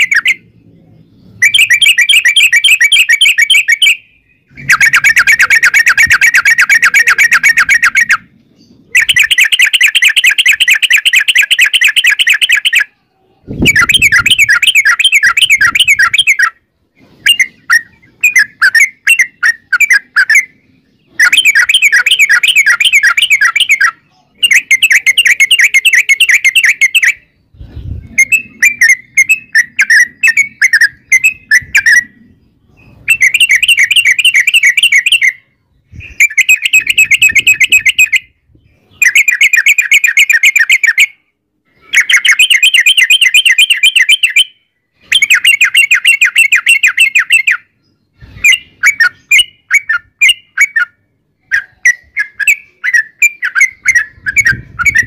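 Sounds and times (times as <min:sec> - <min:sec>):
bird singing rapid trills: 0:00.0 - 0:16.7, 0:17.3 - 0:55.0.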